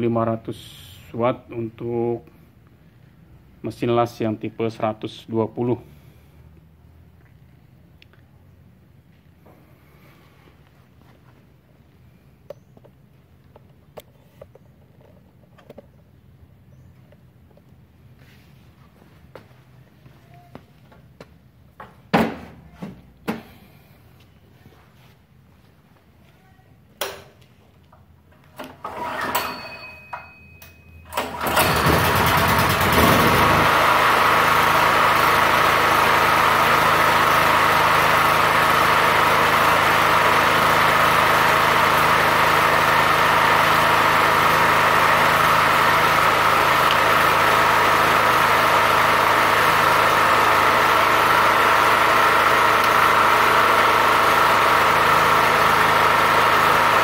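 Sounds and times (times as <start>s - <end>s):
generator engine starting and running: 0.0s - 25.1s, 27.0s - 57.0s.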